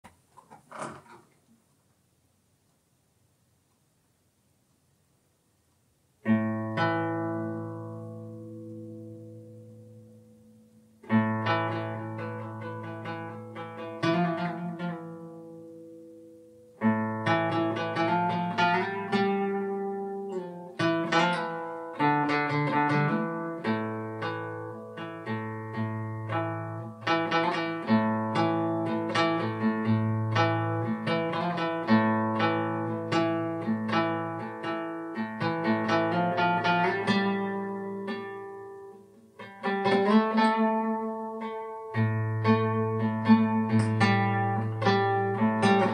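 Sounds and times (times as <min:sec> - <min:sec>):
guitar instrumental piece: 0:06.2 - 0:45.9.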